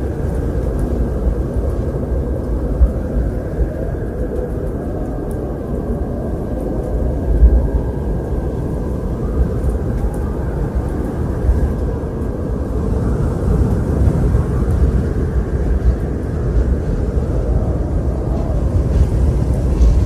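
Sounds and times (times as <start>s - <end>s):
strong wind blowing: 0.0s - 20.0s.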